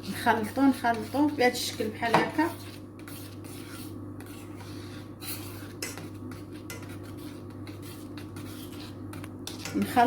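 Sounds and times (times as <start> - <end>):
spoon scraping a pot: 0.0 - 10.0.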